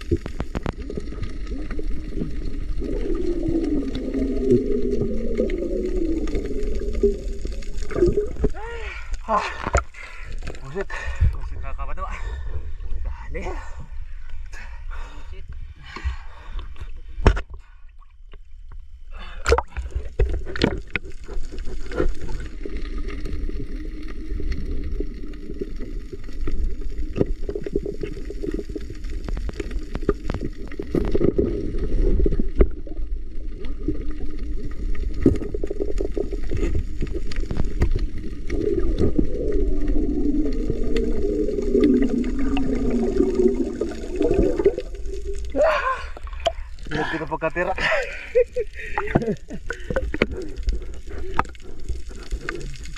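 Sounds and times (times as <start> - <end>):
bubbling and gurgling: 0.0 - 11.4, 17.4 - 52.9
underwater rumble: 0.0 - 52.9.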